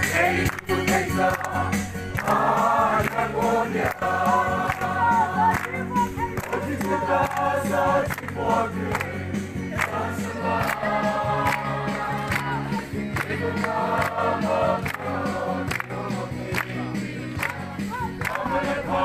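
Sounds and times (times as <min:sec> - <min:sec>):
group singing a song: 0:00.0 - 0:19.0.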